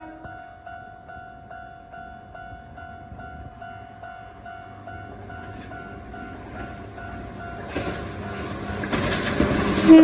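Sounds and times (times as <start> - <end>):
train rumble: 1.5 - 10.0.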